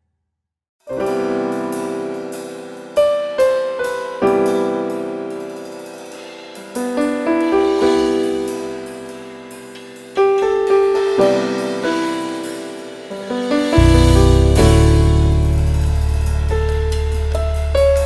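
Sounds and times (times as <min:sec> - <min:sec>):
piano playing slow chords: 0:00.9 - 0:18.0.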